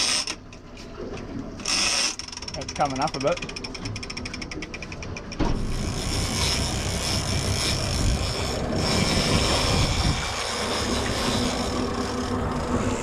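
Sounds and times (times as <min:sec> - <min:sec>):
fishing reel ticking: 0:00.0 - 0:00.5, 0:01.6 - 0:13.0
outboard motor running: 0:00.0 - 0:13.0
water and wind rushing: 0:00.0 - 0:13.0.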